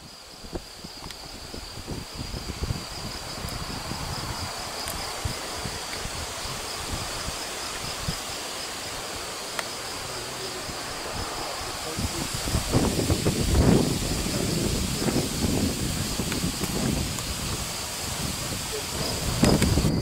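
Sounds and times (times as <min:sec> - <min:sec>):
high-pitched insect trill: 0:00.0 - 0:20.0
wind rumbling on microphone: 0:00.0 - 0:20.0.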